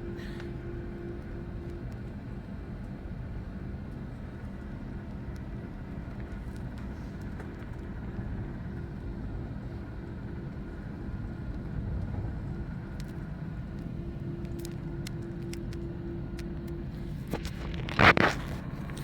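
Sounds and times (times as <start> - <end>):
airliner cabin rumble: 0.0 - 19.0
steady hum: 0.0 - 19.0.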